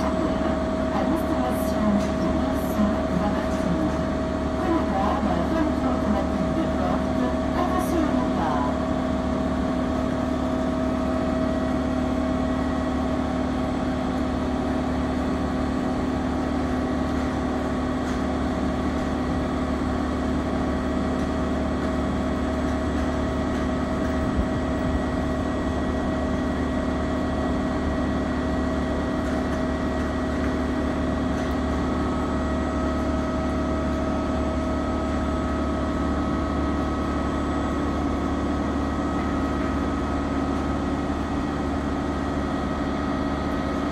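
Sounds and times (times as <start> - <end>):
air compressor humming: 0.0 - 43.9.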